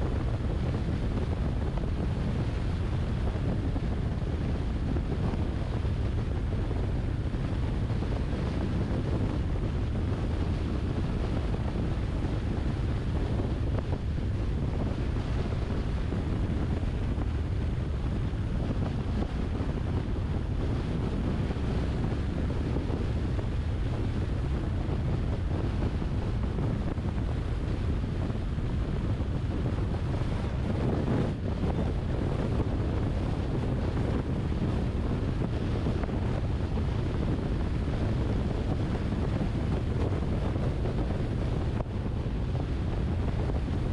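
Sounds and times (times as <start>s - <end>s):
car road and wind noise: 0.0s - 43.9s
wind buffeting microphone: 0.0s - 43.9s.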